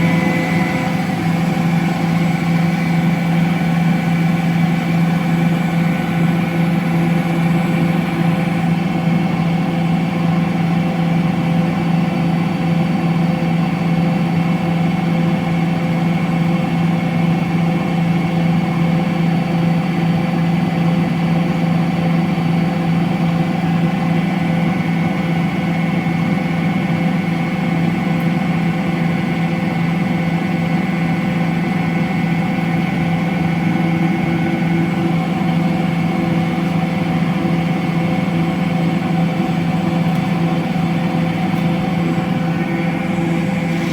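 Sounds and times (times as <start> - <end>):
washing machine spinning: 0.0 - 18.3, 19.4 - 43.9.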